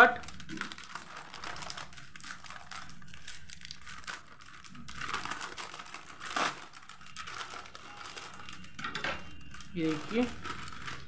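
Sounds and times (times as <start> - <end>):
snack packet crinkling: 0.0 - 11.0.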